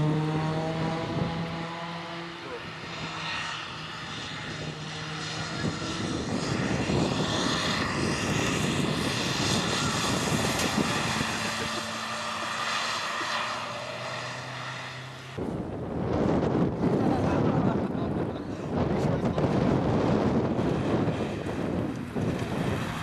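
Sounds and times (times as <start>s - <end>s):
rally car engine running hard: 0.0s - 23.0s
road and wind noise: 0.0s - 23.0s.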